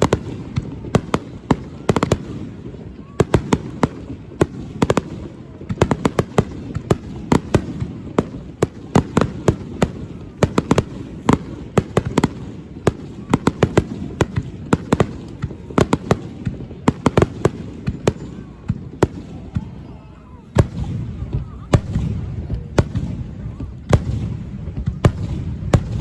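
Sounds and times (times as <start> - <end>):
fireworks cracking and popping: 0.0 - 26.0.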